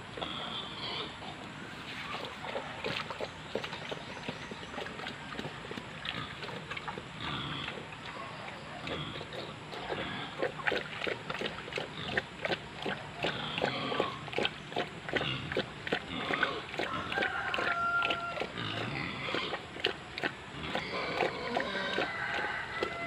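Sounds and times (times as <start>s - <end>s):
pig chewing and slurping: 0.0s - 23.0s.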